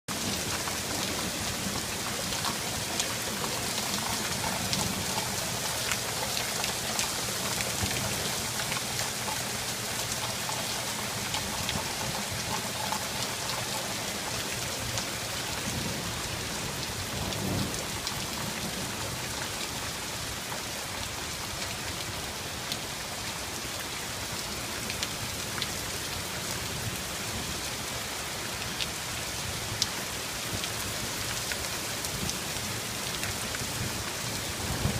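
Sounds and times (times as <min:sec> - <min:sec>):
heavy rain falling: 0:00.1 - 0:34.9
raindrops ticking on a surface: 0:00.1 - 0:34.9.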